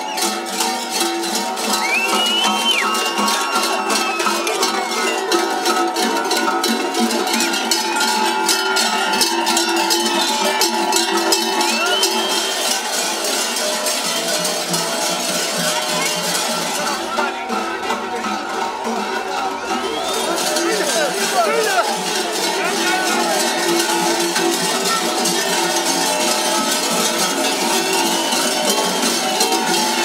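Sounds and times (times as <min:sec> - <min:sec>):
large metal bells jangling: 0:00.0 - 0:30.0.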